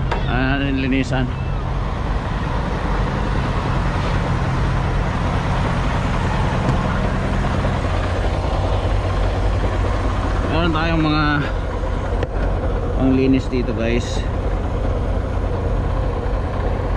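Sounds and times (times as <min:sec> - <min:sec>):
diesel truck engine idling: 0:00.0 - 0:16.9
traffic noise: 0:00.0 - 0:16.9.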